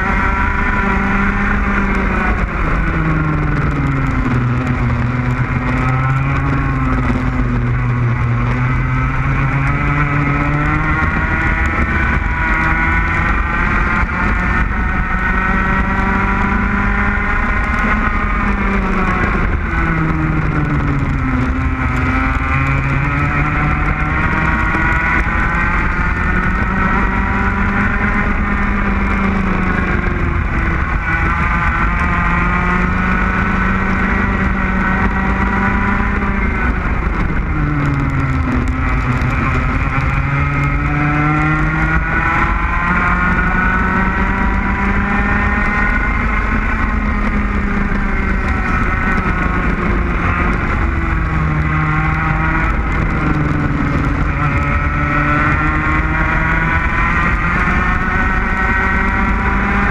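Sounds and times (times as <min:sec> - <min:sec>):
kart engine at full throttle: 0:00.0 - 0:59.9
low rumble of wind: 0:00.0 - 0:59.9.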